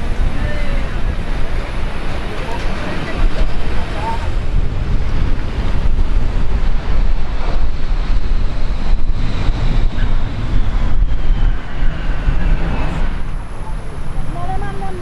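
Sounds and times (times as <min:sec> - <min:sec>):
jet aircraft engine whine: 0:00.0 - 0:15.0
wind buffeting microphone: 0:00.0 - 0:15.0.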